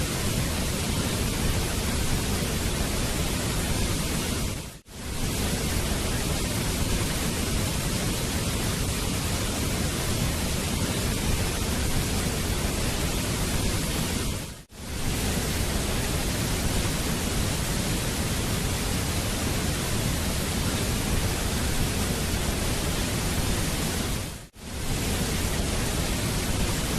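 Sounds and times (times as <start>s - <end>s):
waterfall rushing: 5.0s - 26.9s.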